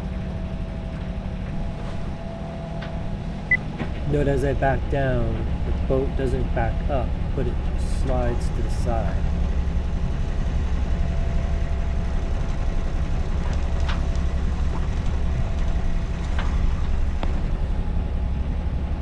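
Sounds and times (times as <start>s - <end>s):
boat engine running: 1.6s - 17.1s.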